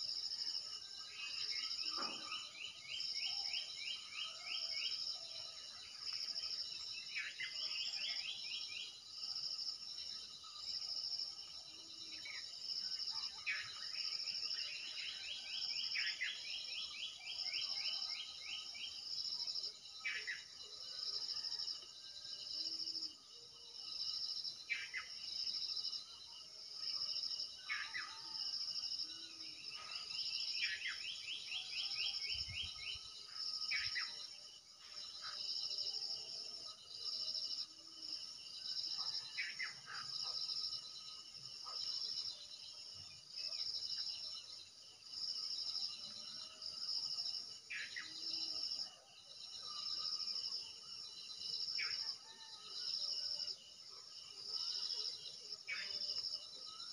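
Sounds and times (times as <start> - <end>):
insects chirping: 0.0 - 56.9.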